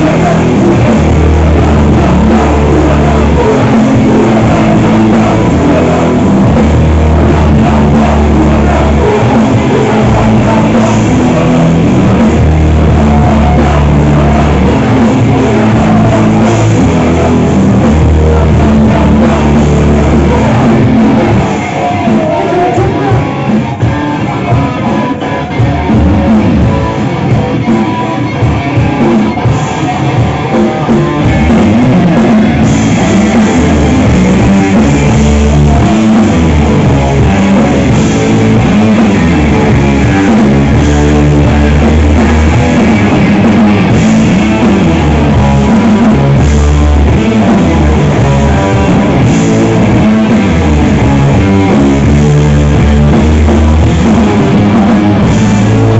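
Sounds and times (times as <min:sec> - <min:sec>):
rock band playing live: 0:00.0 - 0:55.9.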